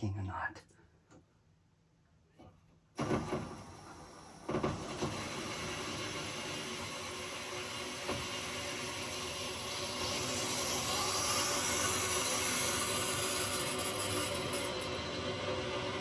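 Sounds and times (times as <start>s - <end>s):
water rushing through pipes: 3.0s - 16.0s.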